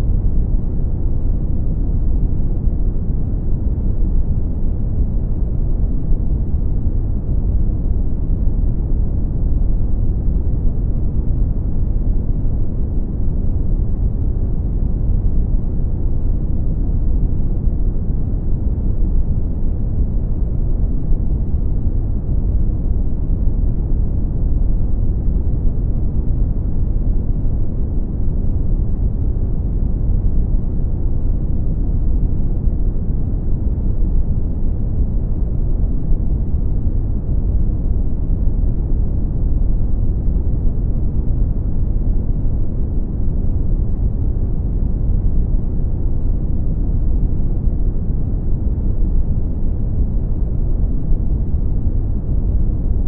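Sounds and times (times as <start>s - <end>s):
deep rumbling brown noise: 0.0s - 53.0s.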